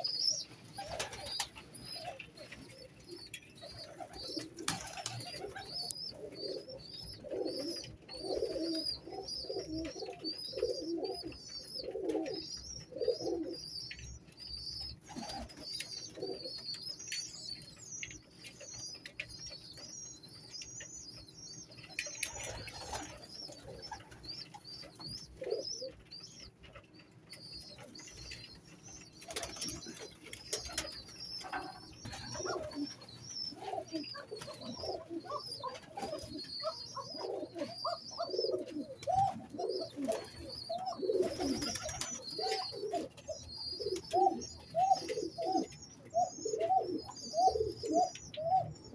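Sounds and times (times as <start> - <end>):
pigeons cooing: 0.0 - 16.8, 21.0 - 48.9.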